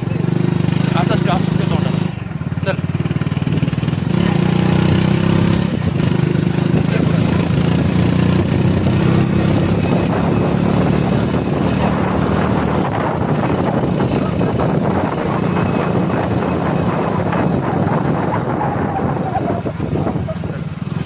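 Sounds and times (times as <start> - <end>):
motorcycle engine running: 0.0 - 21.0
road noise: 0.0 - 21.0
wind noise: 3.4 - 21.0.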